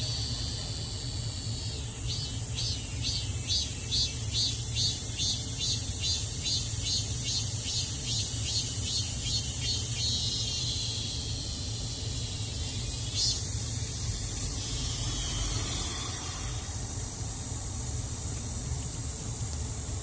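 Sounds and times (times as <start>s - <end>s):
cicadas buzzing: 0.0s - 20.0s
steady low hum: 0.0s - 20.0s.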